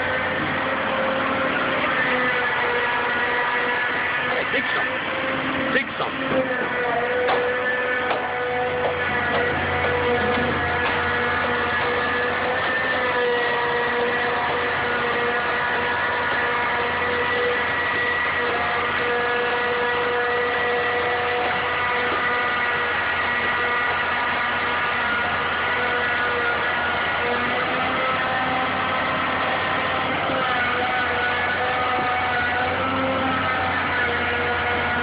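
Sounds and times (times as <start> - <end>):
diesel excavator engine running: 0.0 - 35.0
steady whine: 0.0 - 35.0.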